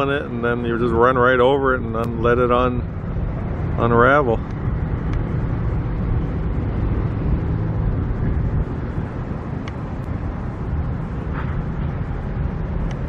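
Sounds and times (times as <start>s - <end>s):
engines and road traffic rumble: 0.0s - 13.0s.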